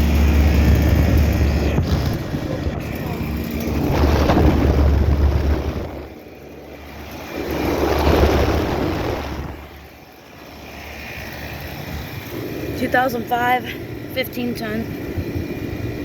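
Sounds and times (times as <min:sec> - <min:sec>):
low rushing rumble: 0:00.0 - 0:16.0.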